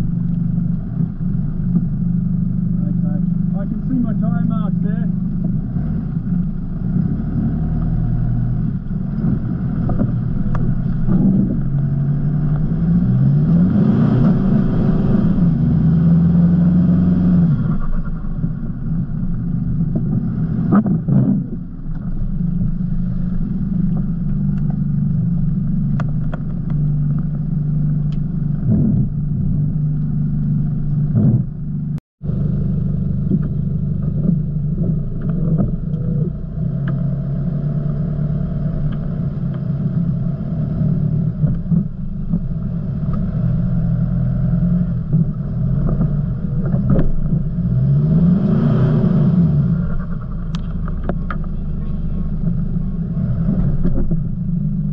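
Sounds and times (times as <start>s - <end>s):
vehicle engine running at low revs: 0.0s - 54.9s.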